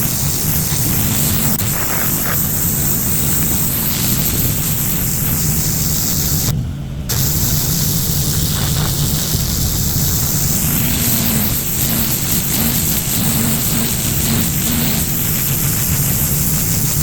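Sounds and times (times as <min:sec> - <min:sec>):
high-pressure water spray hiss: 0:00.0 - 0:17.0
pressure washer motor humming: 0:00.0 - 0:17.0.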